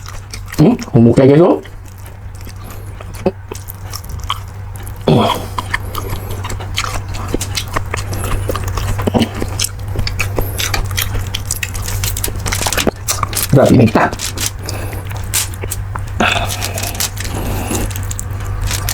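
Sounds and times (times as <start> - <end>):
steady low hum: 0.0 - 18.9
wet chewing and smacking: 0.0 - 18.9.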